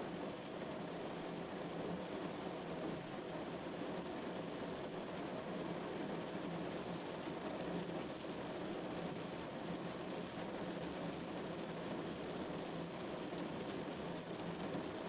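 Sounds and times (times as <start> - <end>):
rain drumming on a car roof: 0.2 - 15.0.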